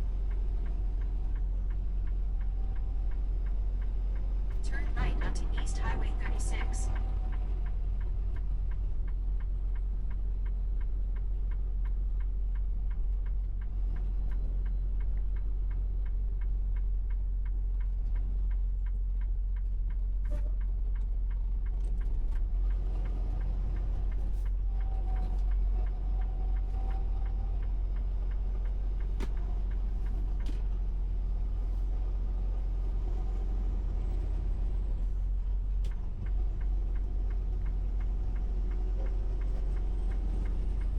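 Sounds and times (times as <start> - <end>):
road noise: 0.0 - 40.9
truck engine rumble: 0.0 - 40.9
turn signal clicking: 5.6 - 34.0, 34.6 - 40.9.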